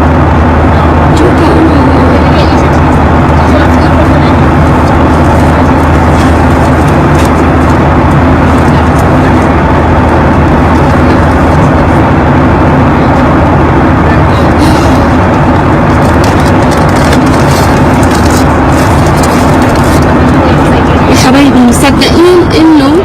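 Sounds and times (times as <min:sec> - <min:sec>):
aircraft engine and airflow drone: 0:00.0 - 0:23.0
low hum: 0:00.0 - 0:23.0.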